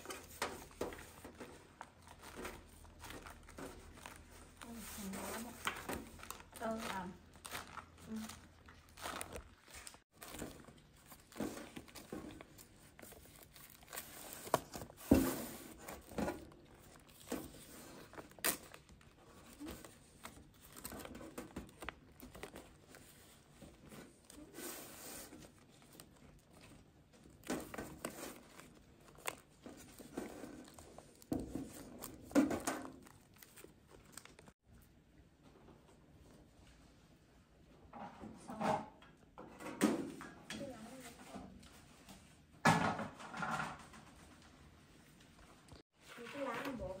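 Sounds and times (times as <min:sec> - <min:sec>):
rustling and crinkling: 0:00.0 - 0:37.2, 0:40.6 - 0:47.0.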